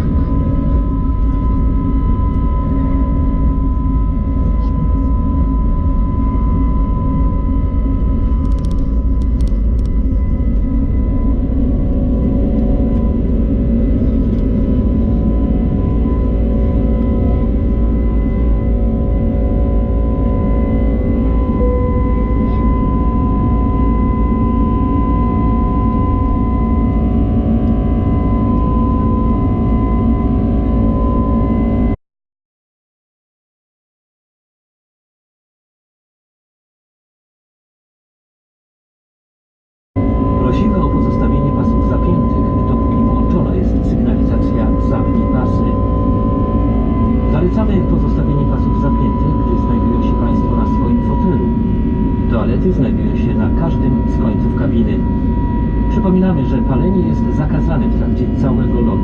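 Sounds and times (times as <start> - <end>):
engine and airflow rumble: 0.0 - 32.0, 40.0 - 59.0
faint steady whine: 0.0 - 32.0, 40.0 - 59.0.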